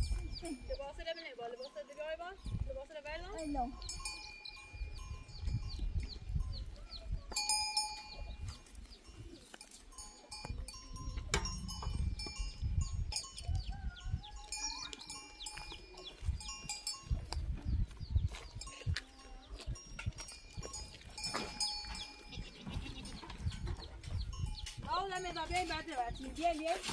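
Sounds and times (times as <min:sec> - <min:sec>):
animal bells clinking: 0:00.0 - 0:26.9.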